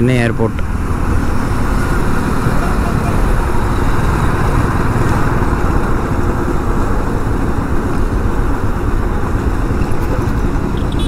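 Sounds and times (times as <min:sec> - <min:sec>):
road noise: 0:00.0 - 0:11.0
motorcycle engine: 0:00.6 - 0:11.0.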